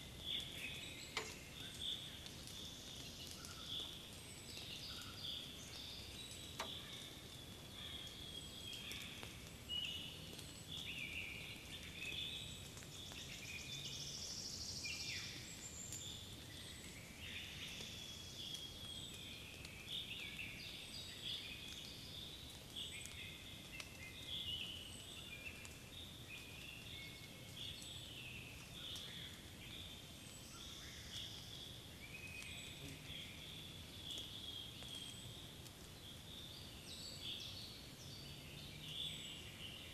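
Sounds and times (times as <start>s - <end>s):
birds chorus chirping: 0.0s - 39.9s
faint background hiss: 0.0s - 39.9s.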